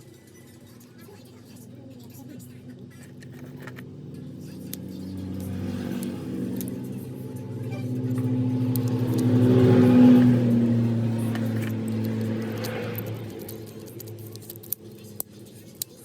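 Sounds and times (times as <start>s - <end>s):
motorcycle engine revving: 1.6s - 15.6s.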